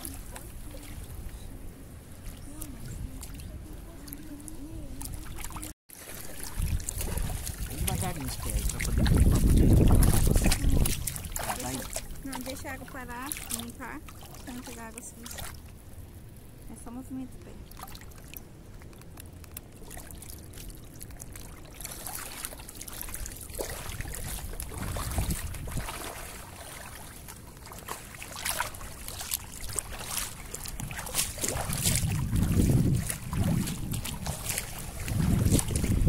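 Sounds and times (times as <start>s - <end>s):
feet splashing through seawater: 0.0s - 15.6s, 17.7s - 36.0s.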